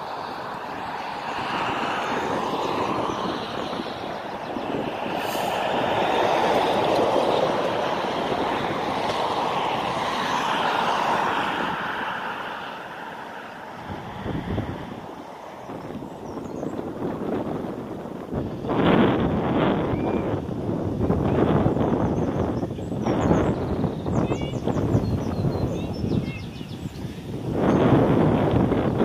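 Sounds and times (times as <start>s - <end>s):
jet engine rush: 0.0s - 29.0s.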